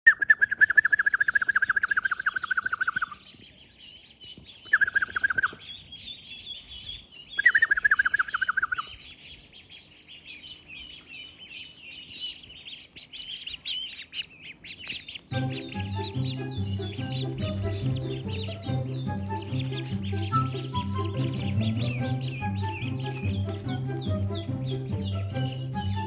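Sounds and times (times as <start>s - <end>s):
ducklings peeping: 0.1s - 26.0s.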